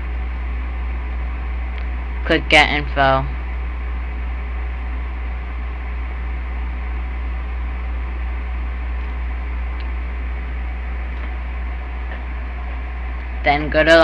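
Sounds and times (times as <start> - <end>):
strong low hum: 0.0 - 14.0.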